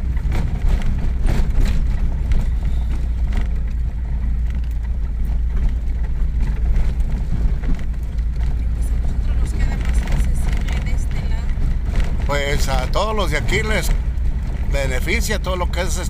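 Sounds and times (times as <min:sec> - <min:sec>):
knocks from bumps: 0:00.0 - 0:14.8
truck engine and tyre rumble: 0:00.0 - 0:16.0.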